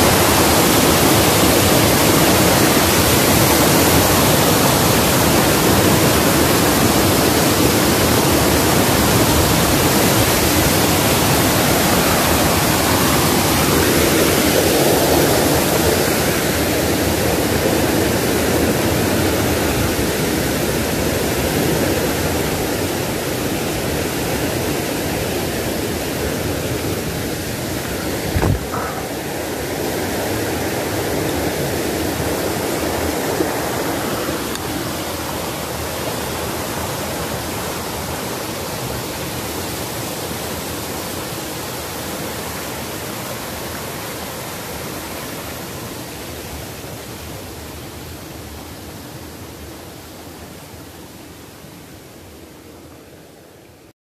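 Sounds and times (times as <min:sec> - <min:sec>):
water rushing over rocks: 0:00.0 - 0:53.8.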